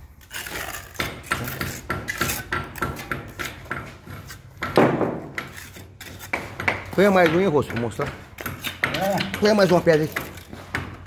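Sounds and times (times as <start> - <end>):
trowel scraping mortar: 0.0 - 4.6, 5.3 - 11.0.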